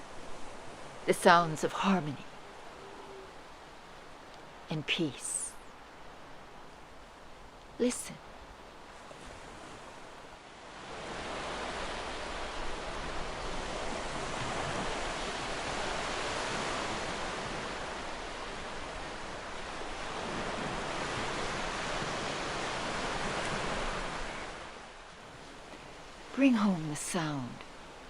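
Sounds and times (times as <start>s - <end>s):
ocean surf washing: 0.0s - 28.0s.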